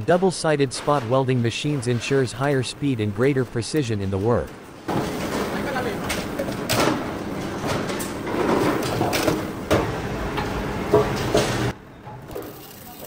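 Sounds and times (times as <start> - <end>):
workshop noisy din: 0.0 - 13.0.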